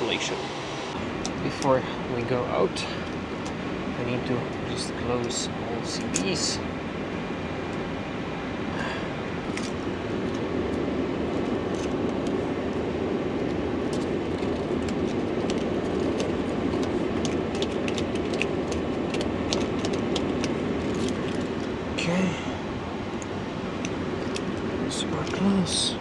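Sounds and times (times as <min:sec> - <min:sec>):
air-conditioning hiss: 0:00.0 - 0:26.0.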